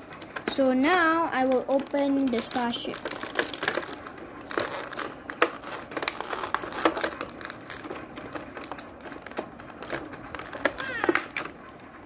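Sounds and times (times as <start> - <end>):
packaging crinkling: 0.9 - 11.6.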